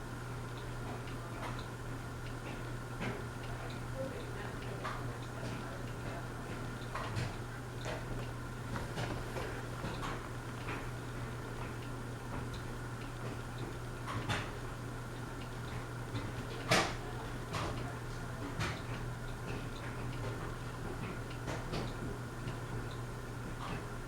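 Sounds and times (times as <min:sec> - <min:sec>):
ceiling fan motor hum: 0:00.0 - 0:24.0
fan clicks and ticks: 0:00.0 - 0:24.0.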